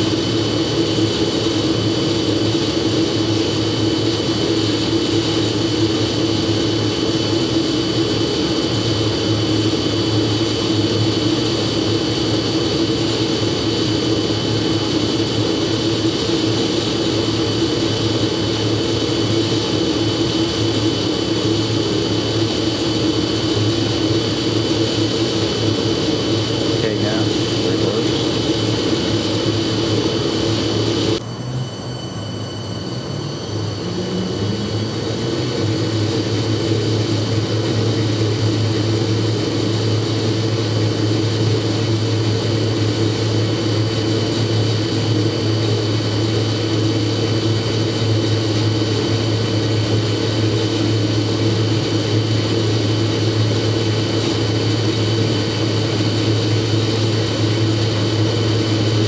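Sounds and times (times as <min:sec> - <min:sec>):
motor hum with high whine: 0:00.0 - 0:59.0.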